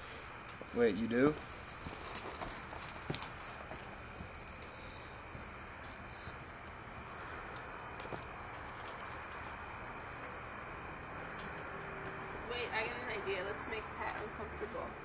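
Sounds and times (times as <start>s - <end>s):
cricket trilling: 0.0s - 15.0s
low background hiss: 0.0s - 15.0s.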